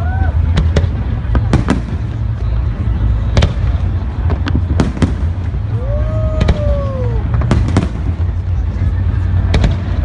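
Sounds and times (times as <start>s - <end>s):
fireworks bangs and pops: 0.4s - 10.0s.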